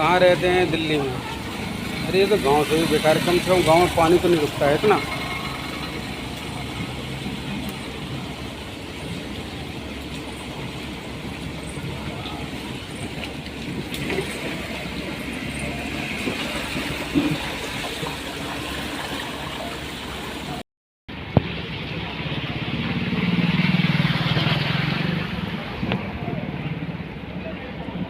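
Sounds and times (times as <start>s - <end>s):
road traffic engines: 0.0s - 28.0s.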